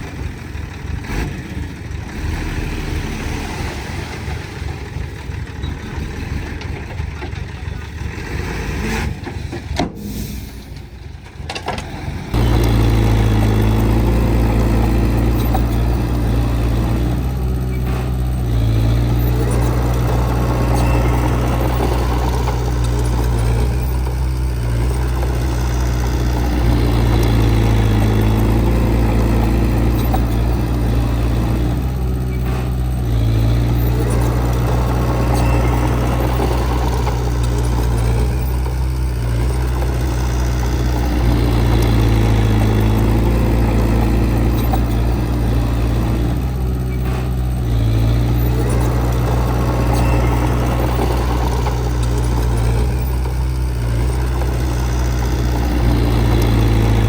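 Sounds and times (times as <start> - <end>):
heavy machine diesel engine: 0.0 - 57.0.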